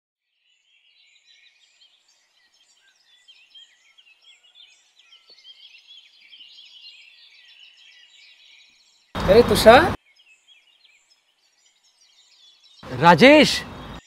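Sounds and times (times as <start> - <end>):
small birds chirping: 0.2 - 14.0.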